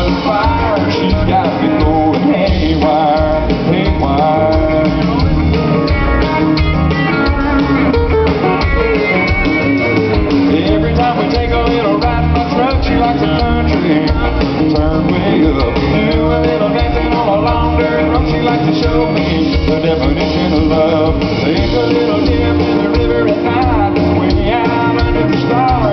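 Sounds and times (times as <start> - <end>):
drum kit beat: 0.0 - 25.9
electric guitar lead line: 0.0 - 25.9
live country rock band: 0.0 - 25.9.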